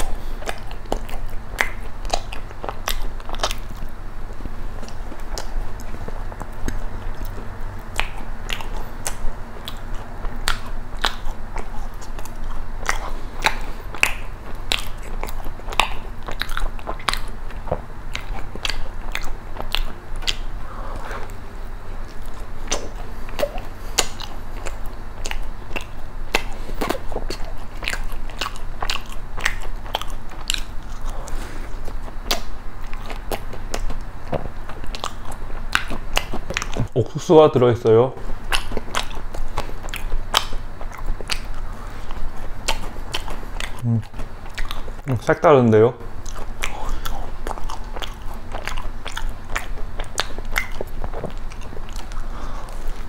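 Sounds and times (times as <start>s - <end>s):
person chewing crisp crunches: 0.0s - 53.0s.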